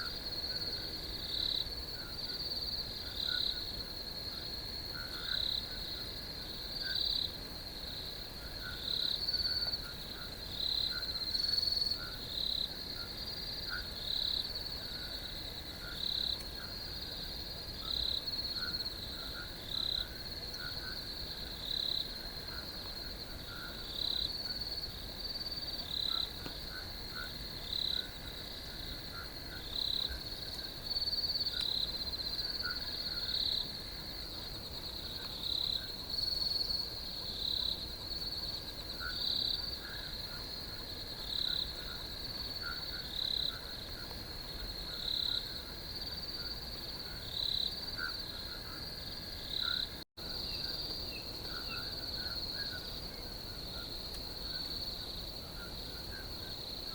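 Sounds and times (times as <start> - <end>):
crickets chirping: 0.0 - 56.9.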